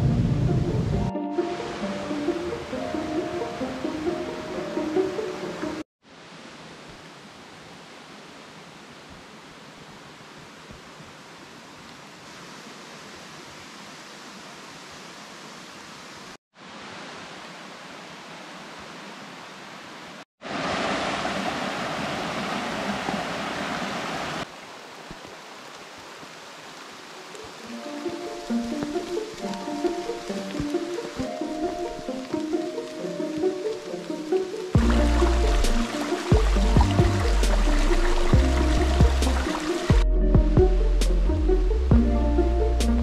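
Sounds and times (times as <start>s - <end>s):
steady outdoor hiss: 0.0s - 40.0s, 40.6s - 43.0s.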